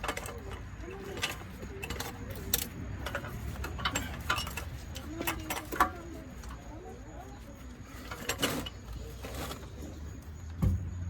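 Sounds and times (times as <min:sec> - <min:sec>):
metal tools clinking: 0:00.0 - 0:10.4.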